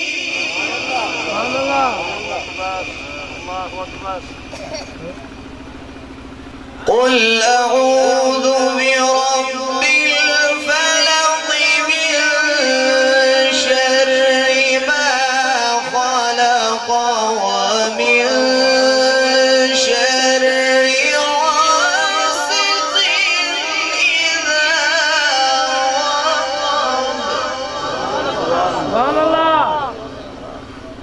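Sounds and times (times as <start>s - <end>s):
man reciting melodically: 0.0s - 31.0s.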